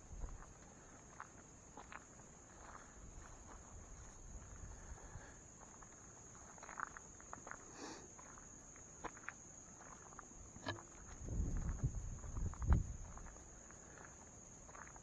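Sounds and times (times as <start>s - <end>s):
faint footsteps outdoors: 0.0s - 15.0s.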